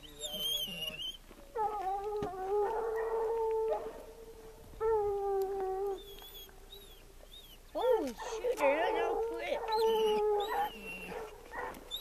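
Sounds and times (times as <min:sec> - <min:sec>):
hound baying: 0:00.0 - 0:12.0.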